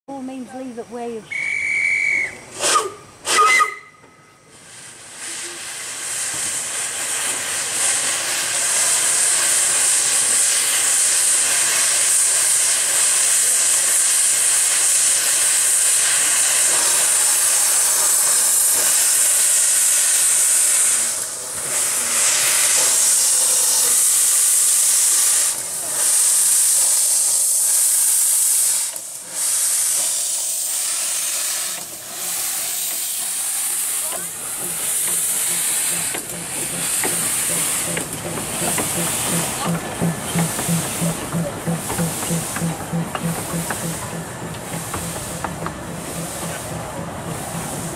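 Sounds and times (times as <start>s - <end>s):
steam locomotive hissing: 0.1s - 47.9s.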